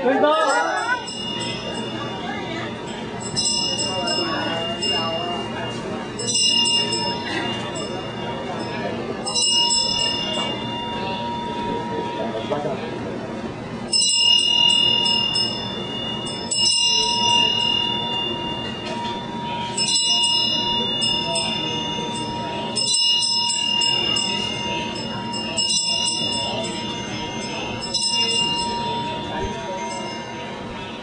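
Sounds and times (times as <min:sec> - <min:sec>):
bell chimes ringing: 0:00.2 - 0:31.0.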